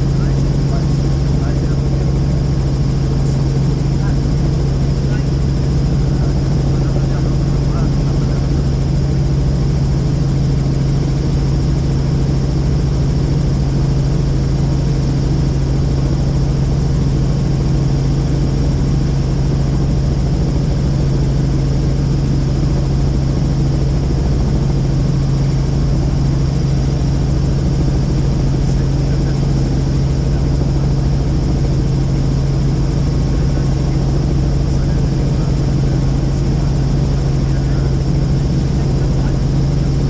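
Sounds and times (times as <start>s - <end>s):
helicopter engine and rotors drone: 0.0s - 40.0s.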